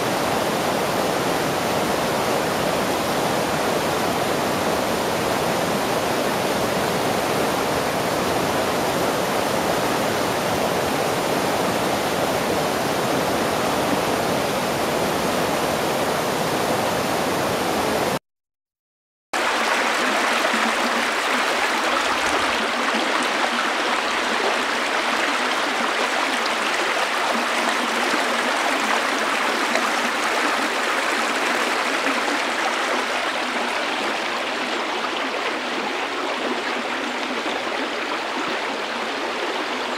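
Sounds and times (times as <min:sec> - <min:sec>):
river water rushing: 0:00.0 - 0:18.2, 0:19.4 - 0:39.9.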